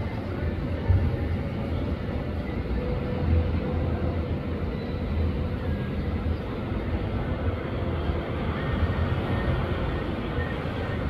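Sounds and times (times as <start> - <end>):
low rumble of city ambience: 0.0 - 11.0.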